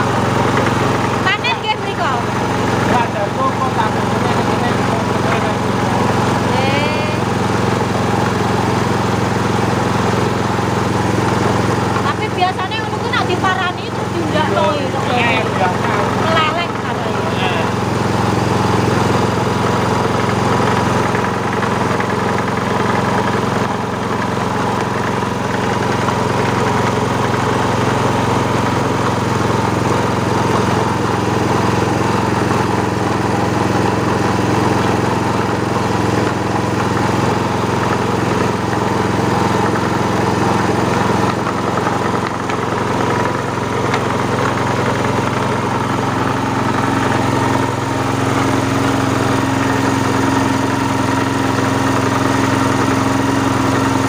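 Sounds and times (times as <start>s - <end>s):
grinding mill droning: 0.0s - 54.0s.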